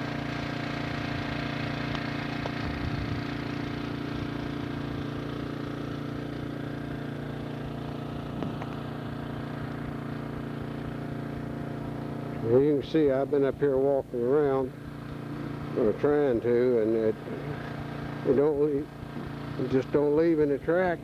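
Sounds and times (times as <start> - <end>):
portable generator engine humming: 0.0 - 21.0.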